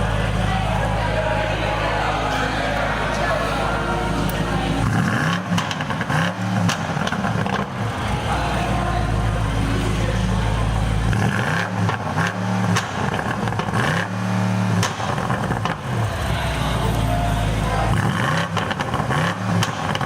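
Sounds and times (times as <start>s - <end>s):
car engine idling: 0.0s - 20.0s
car engine revving: 0.0s - 20.0s.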